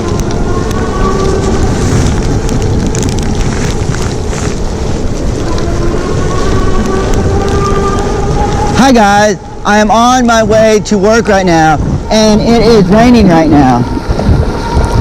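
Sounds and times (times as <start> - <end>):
rain and wind on microphone: 0.0 - 15.0.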